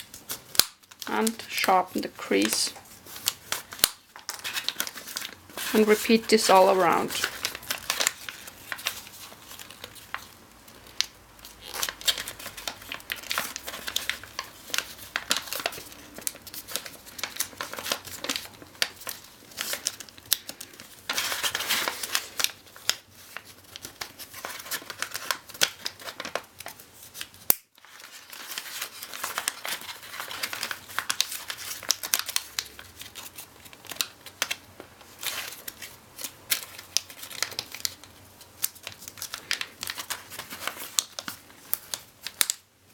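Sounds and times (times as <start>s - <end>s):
paper crinkling and crackling: 0.0s - 42.9s.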